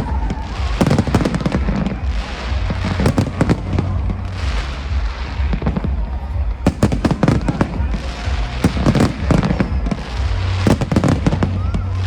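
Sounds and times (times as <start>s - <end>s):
fireworks bangs and crackles: 0.0s - 12.0s
steady low rumble: 0.0s - 12.0s.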